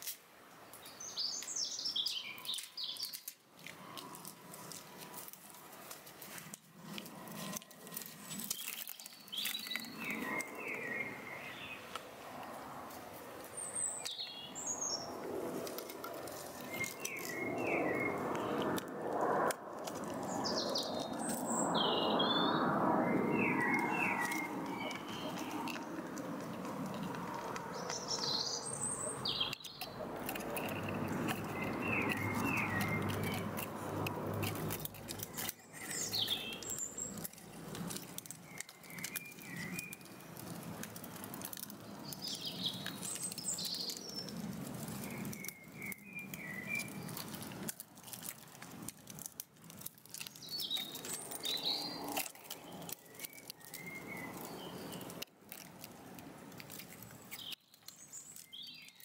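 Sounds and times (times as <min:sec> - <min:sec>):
rustling with crackles: 0:00.0 - 0:59.0
birds chirping: 0:00.6 - 0:55.6, 0:56.6 - 0:59.0.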